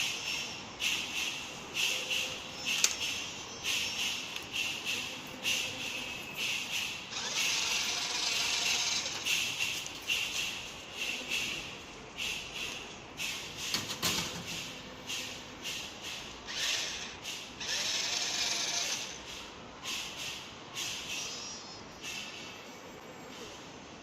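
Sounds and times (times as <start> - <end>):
toy motor and gears whirring: 0.0 - 20.2.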